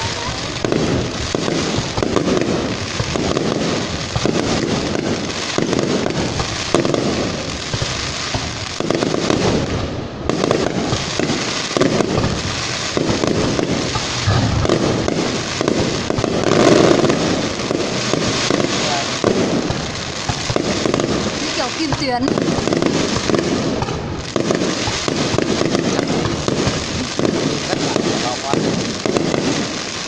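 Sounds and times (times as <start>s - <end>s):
fireworks bursting: 0.0s - 30.0s
fireworks crackling: 0.0s - 30.0s.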